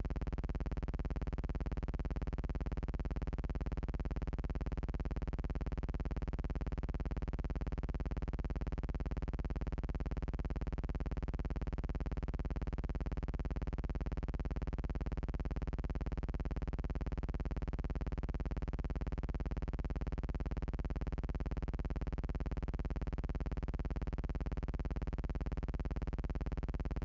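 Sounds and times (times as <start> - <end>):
buzzing hum with flutter: 0.0 - 27.0.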